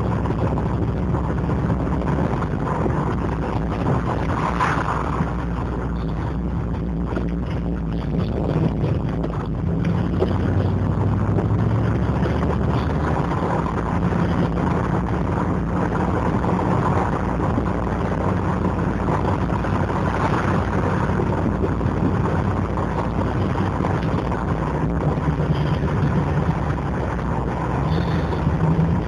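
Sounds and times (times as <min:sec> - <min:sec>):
car engine burbling: 0:00.0 - 0:29.0
road noise: 0:00.0 - 0:29.0.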